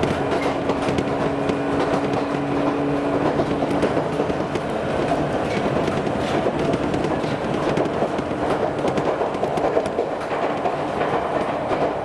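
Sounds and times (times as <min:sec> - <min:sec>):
train motor hum: 0:00.0 - 0:12.0
train wheel and running noise: 0:00.0 - 0:12.0.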